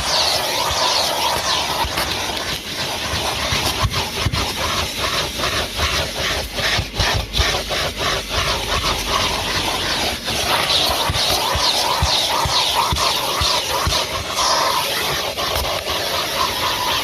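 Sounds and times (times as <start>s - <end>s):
vacuum cleaner sucking: 0.0s - 17.0s.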